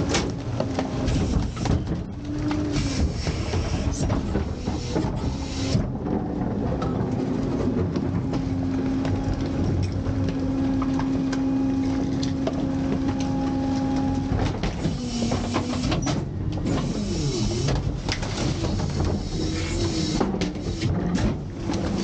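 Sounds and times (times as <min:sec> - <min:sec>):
hydraulics whining: 0:00.0 - 0:22.0.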